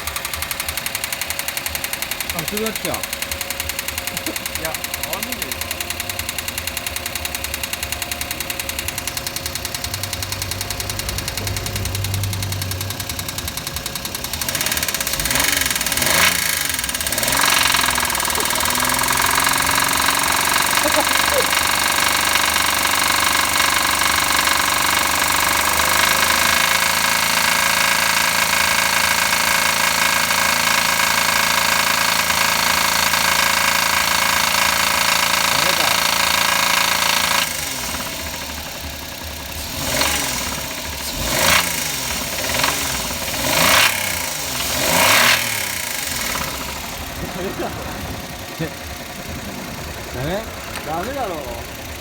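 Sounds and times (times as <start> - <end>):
car engine idling: 0.0 - 52.0
rapid engine knocking: 0.0 - 52.0.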